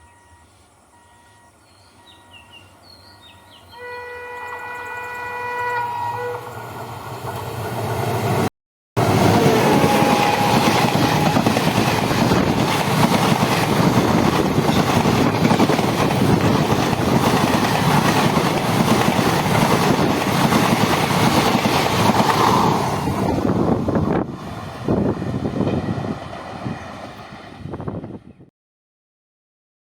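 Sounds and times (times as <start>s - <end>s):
train passing at speed: 0.0s - 28.5s.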